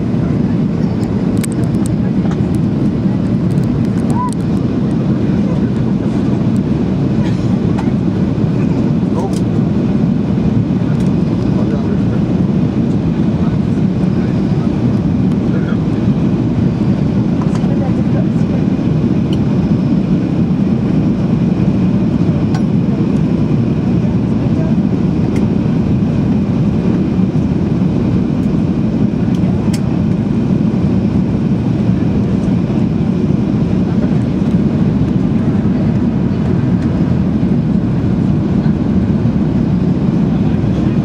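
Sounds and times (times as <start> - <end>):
airplane cabin engine drone: 0.0 - 41.0.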